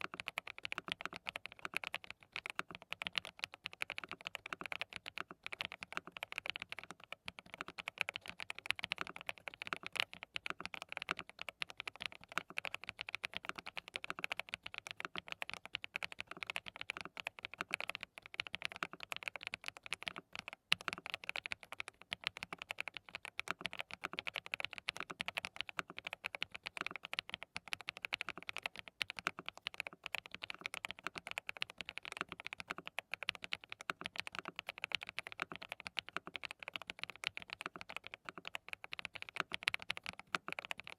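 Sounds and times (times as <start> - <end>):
rapid mechanical keyboard typing: 0.0 - 40.9.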